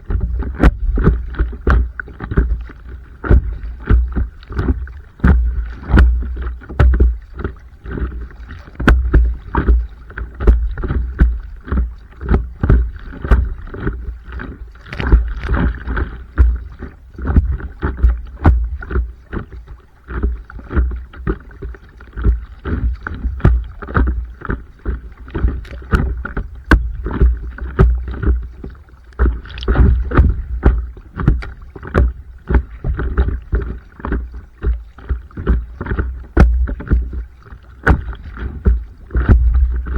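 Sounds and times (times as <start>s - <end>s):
low thumps and rumble: 0.0s - 39.9s
paddle strokes: 0.0s - 39.9s
water splashing against board: 0.0s - 39.9s.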